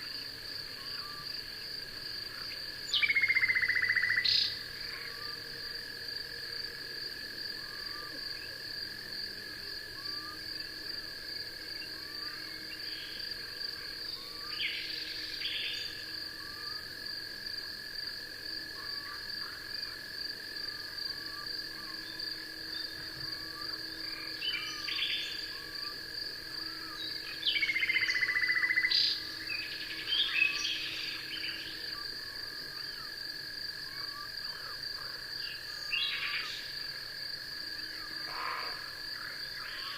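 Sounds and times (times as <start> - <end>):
insects trilling: 0.0 - 39.9
loud pulsed insect call: 0.0 - 39.9.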